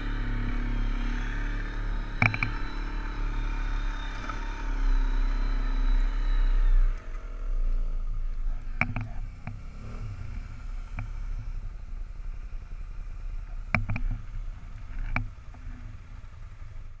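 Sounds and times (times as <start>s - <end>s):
low rumble: 0.0s - 17.0s
snowmobile engine running: 0.0s - 17.0s.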